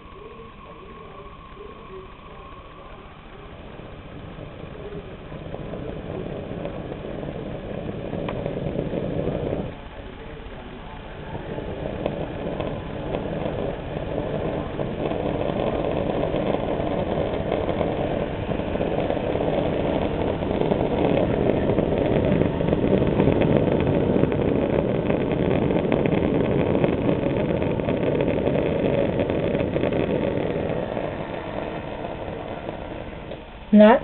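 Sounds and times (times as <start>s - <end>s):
gas torch rushing flame: 1.9s - 34.0s.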